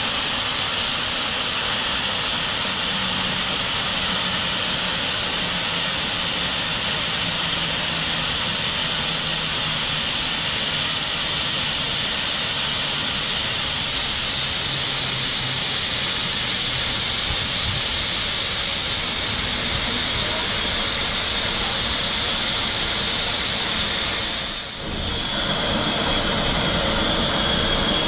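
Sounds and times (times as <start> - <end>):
steam hissing from safety valves: 0.0 - 28.0.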